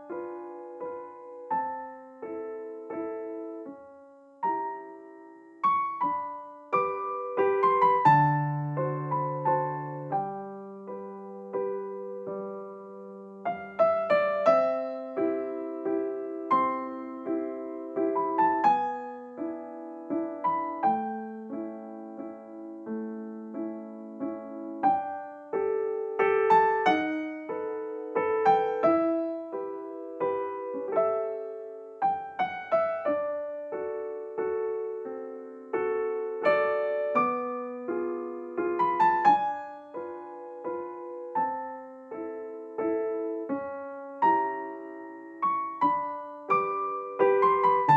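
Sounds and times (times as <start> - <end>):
slow gentle piano melody: 0.0 - 47.9.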